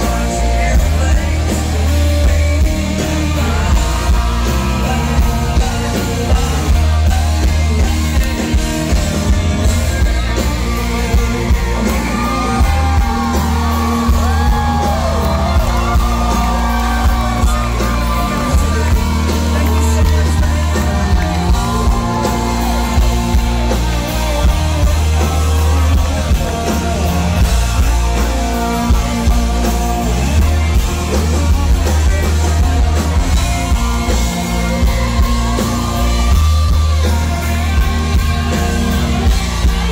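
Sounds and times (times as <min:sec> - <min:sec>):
live country-rock band: 0:00.0 - 0:39.9
man singing: 0:00.0 - 0:39.9.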